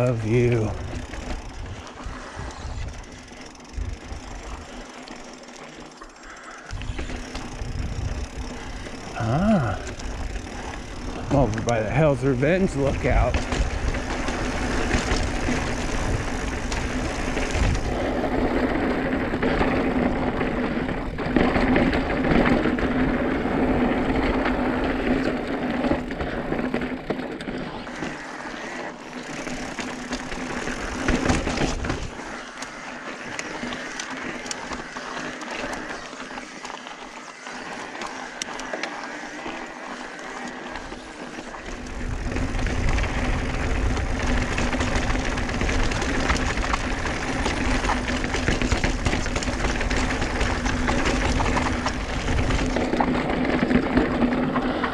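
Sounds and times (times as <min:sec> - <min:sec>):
bike clicks and rattles: 0:00.0 - 0:54.9
bike tyres rolling on rock: 0:00.0 - 0:54.9.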